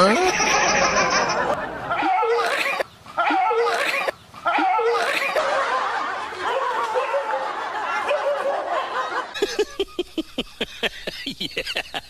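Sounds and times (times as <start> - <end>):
people laughing and snickering: 0.0 - 12.0.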